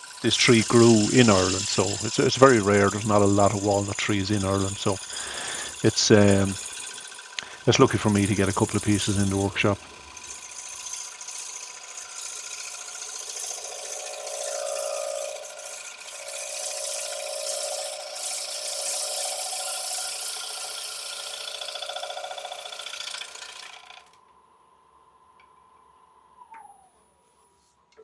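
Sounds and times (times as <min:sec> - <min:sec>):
gouge scraping wood on lathe: 0:00.0 - 0:24.0
lathe whine: 0:00.0 - 0:24.2.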